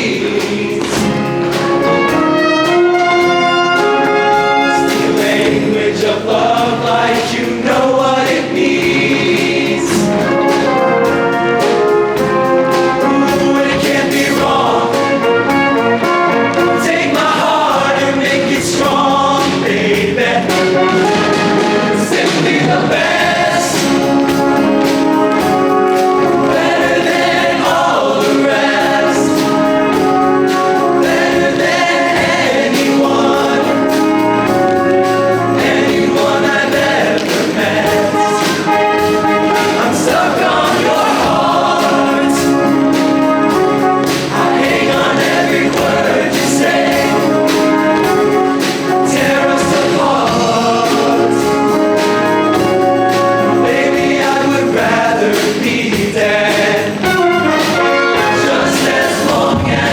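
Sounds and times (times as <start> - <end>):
brass accompaniment: 0.0 - 59.9
choir singing in harmony: 0.0 - 59.9
drum hits: 0.0 - 59.9.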